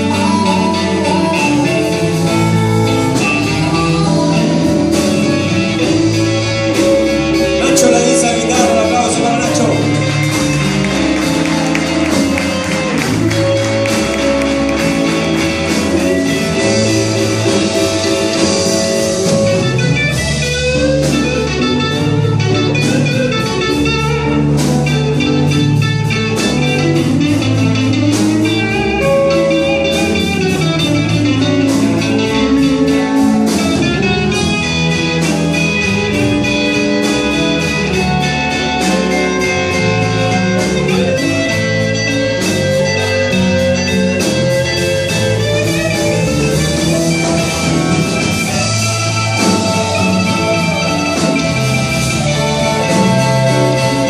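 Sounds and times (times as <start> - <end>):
harmonica: 0.0 - 23.6, 24.3 - 54.0
blues band playing: 0.0 - 54.0.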